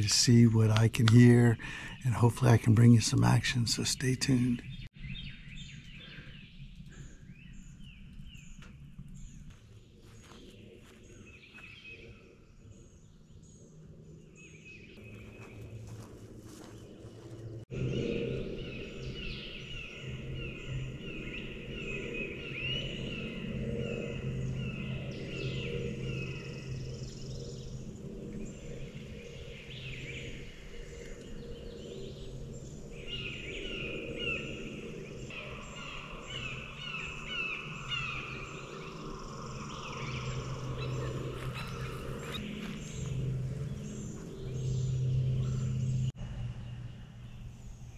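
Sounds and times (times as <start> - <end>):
songbirds chirping and whistling: 0.0 - 47.9
steady low drone: 0.0 - 47.9.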